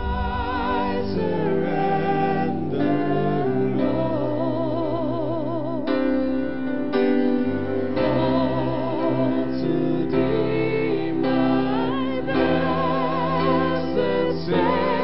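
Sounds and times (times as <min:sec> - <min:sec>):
keyboard accompaniment: 0:00.0 - 0:15.0
person singing worship song: 0:00.0 - 0:15.0.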